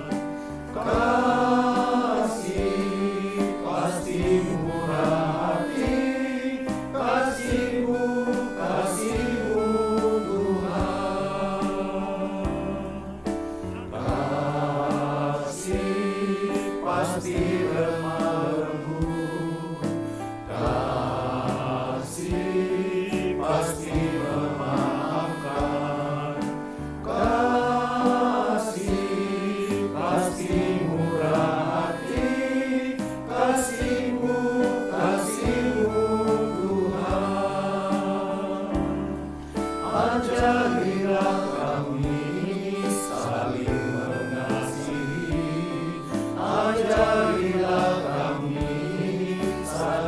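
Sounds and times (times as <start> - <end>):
men's choir singing a hymn: 0.0 - 50.0
sustained accompanying tones: 0.0 - 50.0.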